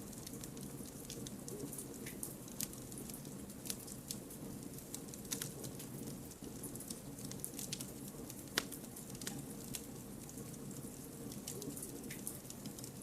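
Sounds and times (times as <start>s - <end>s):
burning logs crackling and popping: 0.0s - 13.0s
campfire flame rushing: 2.5s - 13.0s.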